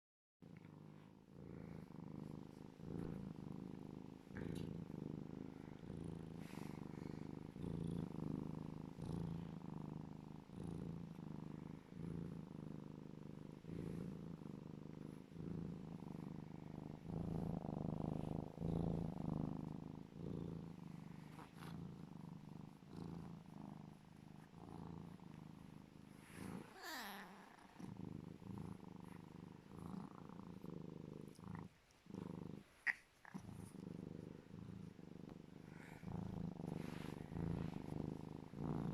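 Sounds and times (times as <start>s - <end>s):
wild cat purring: 0.4s - 38.9s.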